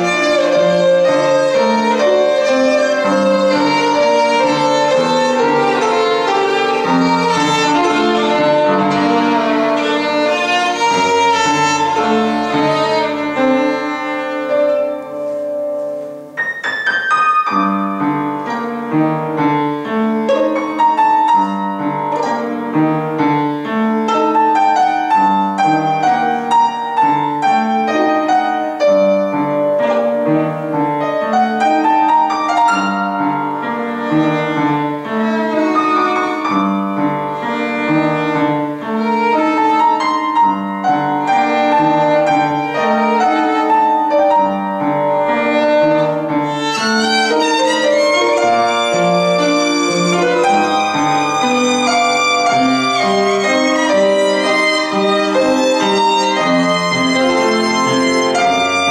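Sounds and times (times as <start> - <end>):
piano accompaniment: 0.0 - 58.9
violin melody: 0.0 - 58.9.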